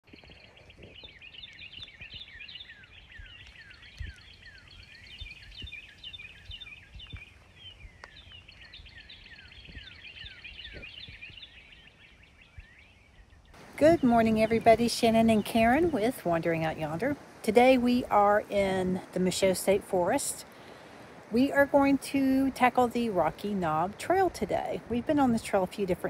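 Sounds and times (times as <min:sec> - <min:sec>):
small birds chirping: 0:00.0 - 0:26.0
wind rumble on microphone: 0:00.0 - 0:26.0.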